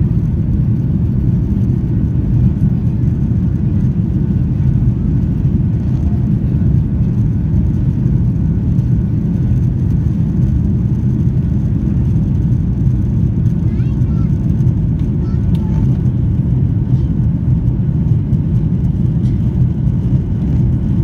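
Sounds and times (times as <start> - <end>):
airliner engines rumbling: 0.0 - 21.0.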